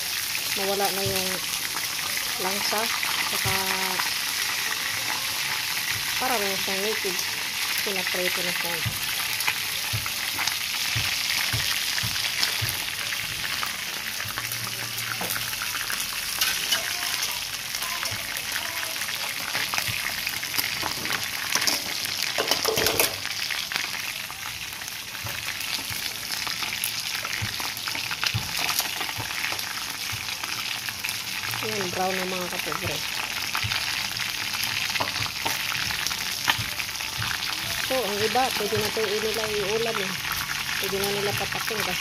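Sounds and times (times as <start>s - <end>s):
chicken sizzling in hot oil: 0.0s - 42.0s.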